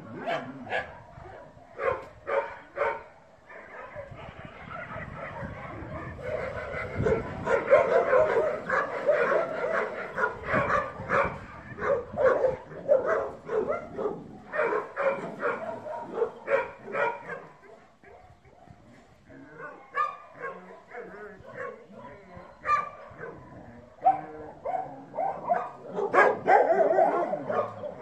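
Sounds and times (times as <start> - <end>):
dog barking: 0.2 - 18.8, 19.6 - 28.0.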